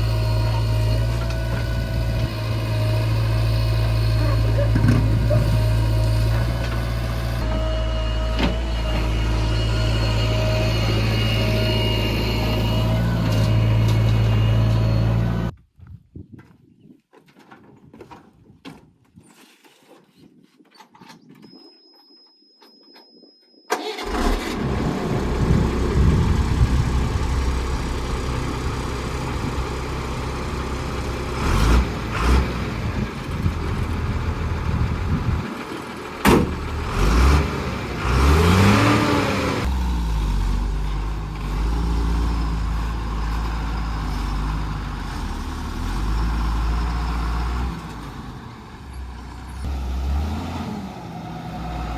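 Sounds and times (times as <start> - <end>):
heavy diesel engine running: 0.0 - 15.5, 23.9 - 51.9.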